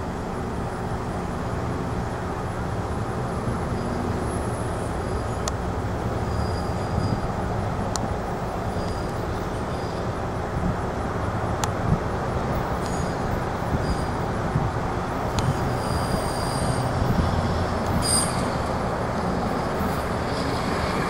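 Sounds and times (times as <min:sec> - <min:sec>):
truck rumbling on rails: 0:00.0 - 0:21.0.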